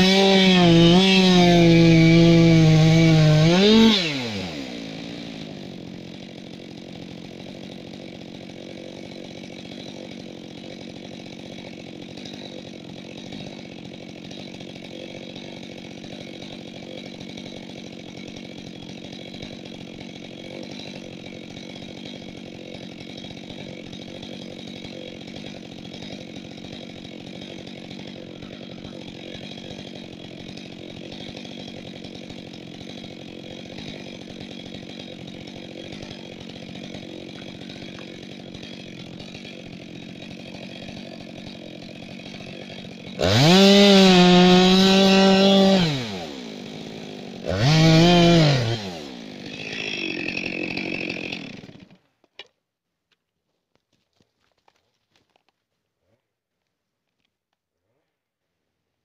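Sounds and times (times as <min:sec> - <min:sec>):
chainsaw idling: 0:00.0 - 0:52.5.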